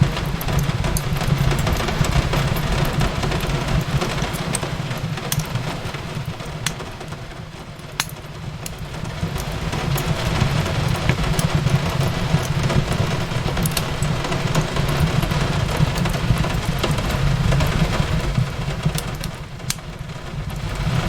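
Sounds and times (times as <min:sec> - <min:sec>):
burning wood popping: 0:00.0 - 0:21.0
fireplace crackling: 0:00.0 - 0:21.0
steady rain: 0:00.0 - 0:21.0.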